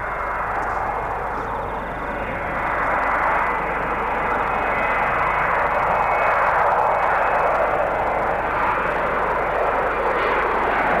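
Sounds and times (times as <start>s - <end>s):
jet engines at takeoff: 0.0s - 11.0s.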